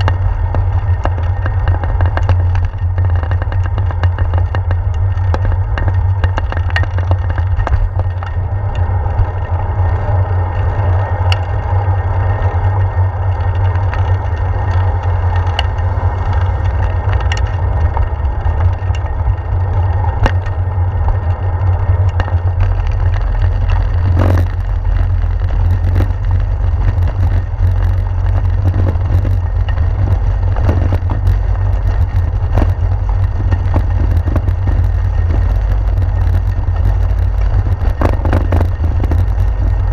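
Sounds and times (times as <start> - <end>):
bike and mount rattling: 0.0 - 39.9
wind buffeting microphone: 0.0 - 39.9.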